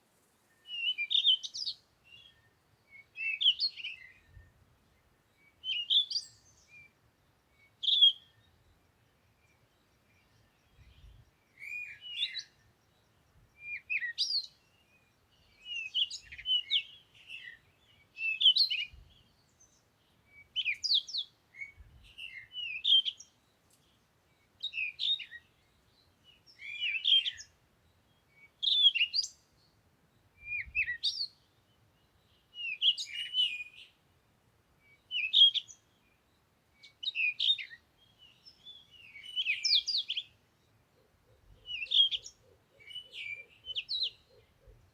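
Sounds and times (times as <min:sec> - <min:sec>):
bird chirping: 0:00.5 - 0:34.0, 0:34.8 - 0:44.9.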